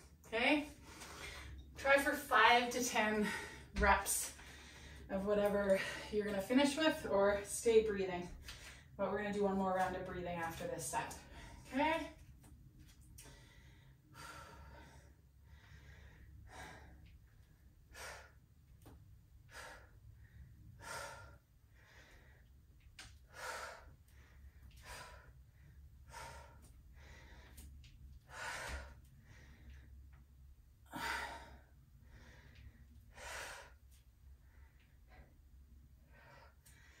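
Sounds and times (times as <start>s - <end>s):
woman breathing: 0.1s - 1.8s, 2.8s - 6.8s, 11.1s - 12.3s, 12.9s - 37.0s.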